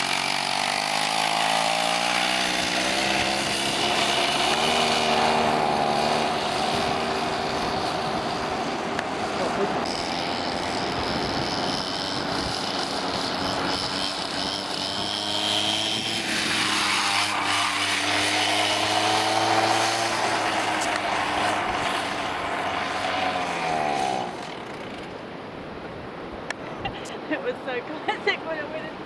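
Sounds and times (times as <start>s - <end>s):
small two-stroke engine revving: 0.0s - 25.4s.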